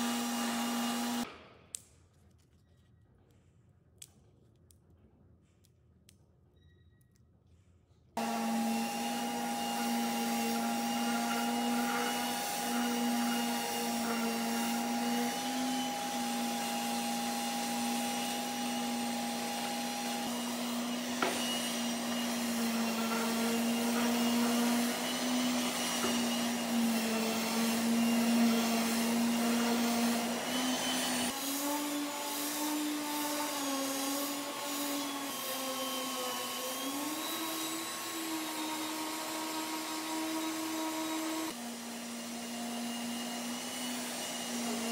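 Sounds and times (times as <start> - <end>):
orbital sander humming: 0.0 - 1.2, 8.2 - 44.9.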